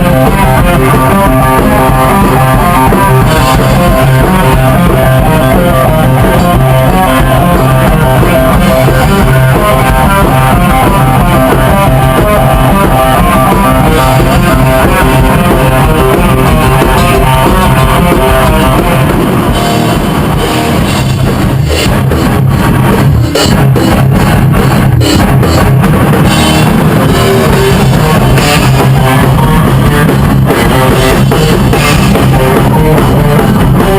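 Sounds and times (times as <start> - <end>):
drum hits: 0.0 - 33.9
heavy rock band playing: 0.0 - 33.9.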